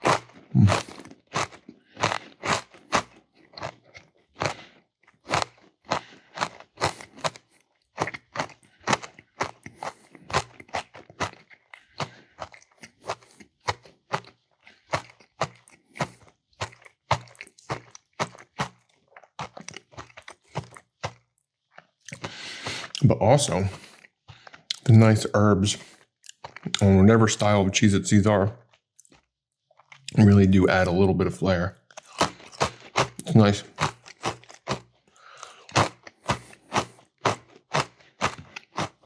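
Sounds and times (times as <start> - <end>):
crunchy chewing of crackers: 0.0 - 27.6, 28.6 - 30.9, 31.7 - 39.0.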